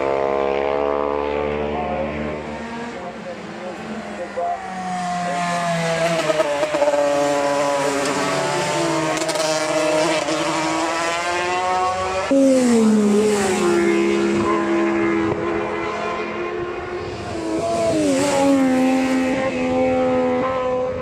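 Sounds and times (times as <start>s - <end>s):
louder motorcycle passing: 0.0s - 21.0s
motorcycles at high revs: 0.0s - 21.0s.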